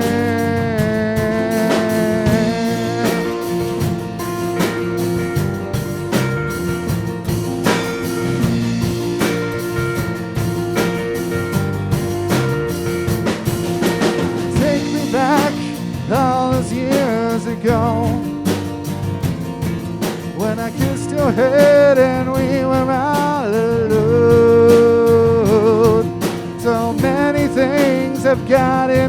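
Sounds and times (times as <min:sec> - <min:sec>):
live band playing: 0:00.0 - 0:29.0.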